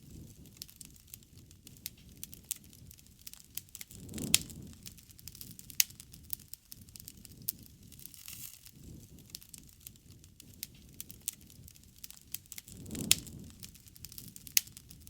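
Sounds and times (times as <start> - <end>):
campfire crackling: 0.0 - 15.0
low rumble of burning fire: 0.0 - 15.0
sharp pops from fire: 0.0 - 15.0.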